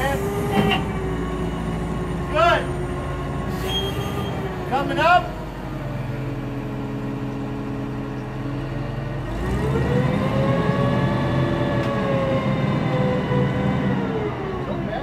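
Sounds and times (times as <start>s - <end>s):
forklift engine revving with whine: 0.0s - 15.0s.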